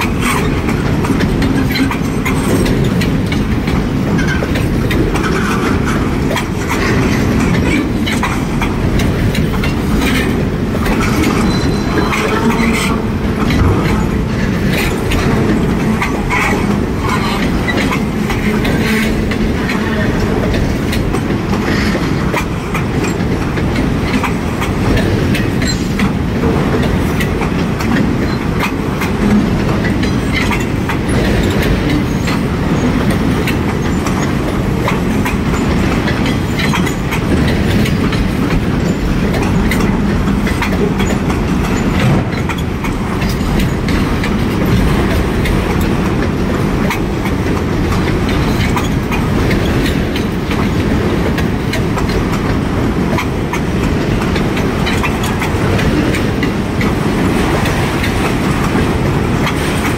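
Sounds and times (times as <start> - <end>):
train wheels rumbling on rails: 0.0 - 59.9
wheels clicking and clacking: 0.0 - 59.9.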